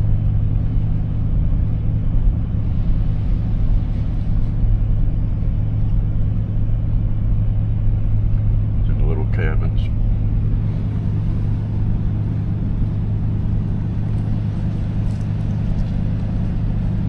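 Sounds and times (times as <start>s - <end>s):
road noise: 0.0s - 17.0s
vehicle engine droning: 0.0s - 17.0s.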